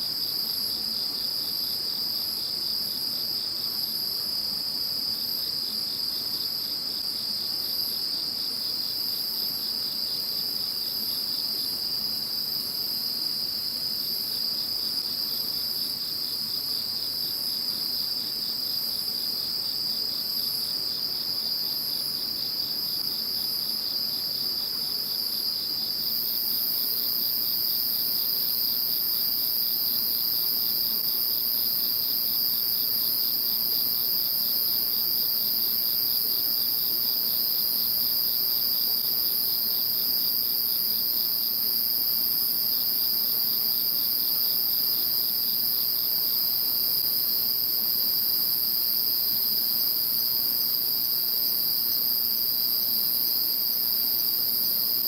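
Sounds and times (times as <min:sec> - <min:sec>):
high continuous insect buzz: 0:00.0 - 0:55.0.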